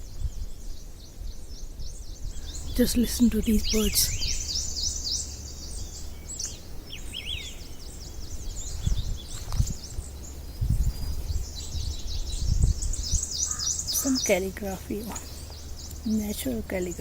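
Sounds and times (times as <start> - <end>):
low rumble: 0.0 - 17.0
songbirds chirping and trilling: 0.0 - 17.0.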